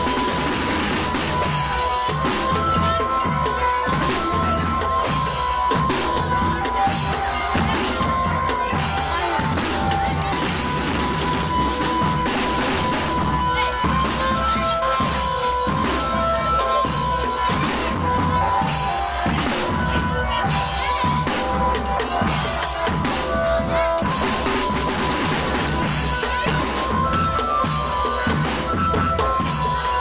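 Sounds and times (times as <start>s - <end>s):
bass and snare drums beating: 0.0s - 30.0s.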